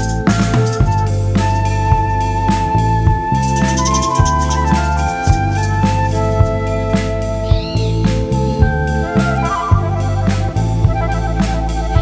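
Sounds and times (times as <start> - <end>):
steady drum beat: 0.0 - 12.0
sustained synth notes: 0.0 - 12.0.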